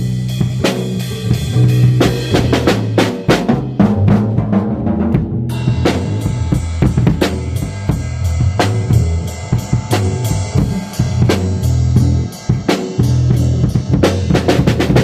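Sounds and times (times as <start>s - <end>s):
drum kit hits: 0.0s - 15.0s
sustained bass line: 0.0s - 15.0s.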